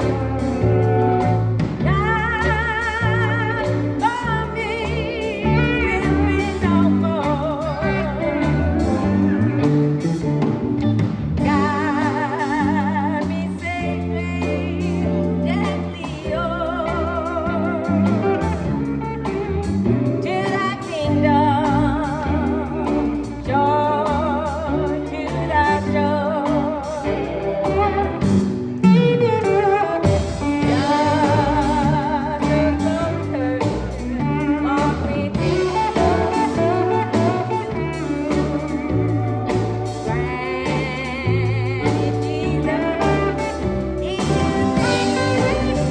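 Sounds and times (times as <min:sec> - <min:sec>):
person singing: 0:00.0 - 0:10.5, 0:11.4 - 0:45.9
bass and drums: 0:00.0 - 0:45.9
steel guitar melody: 0:00.0 - 0:45.9.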